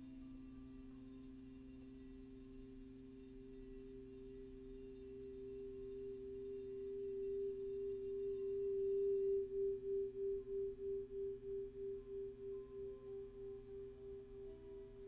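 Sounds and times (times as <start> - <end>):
lower singing bowl tone: 0.0 - 15.0
singing bowl tone: 0.0 - 15.0.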